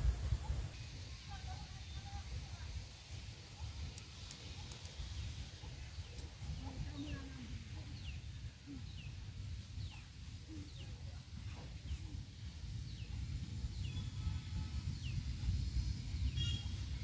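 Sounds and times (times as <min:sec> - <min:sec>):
wind rumble: 0:00.0 - 0:17.0.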